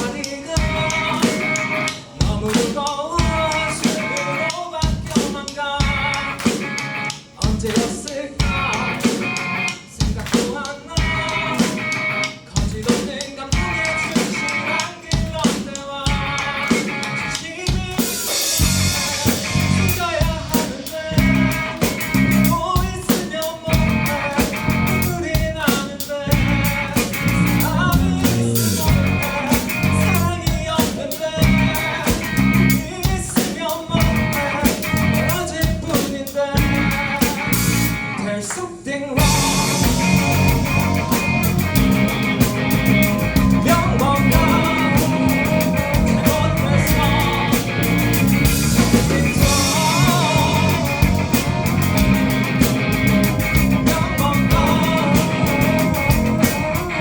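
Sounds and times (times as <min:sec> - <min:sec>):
live rock band playing: 0:00.0 - 0:38.4, 0:39.2 - 0:57.0.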